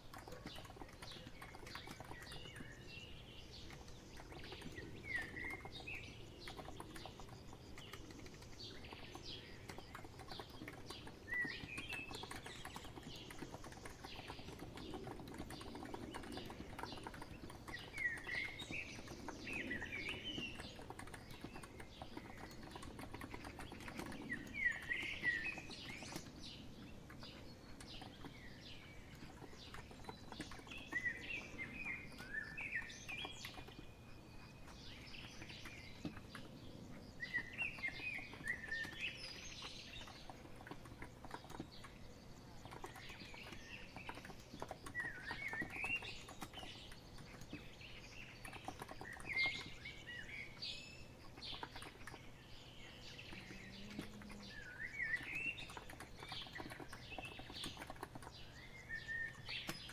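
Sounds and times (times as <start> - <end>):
keyboard typing clicks: 0.0 - 2.8, 3.6 - 36.6, 37.2 - 49.8, 51.2 - 52.3, 53.0 - 59.9
birds chirping: 0.0 - 59.9.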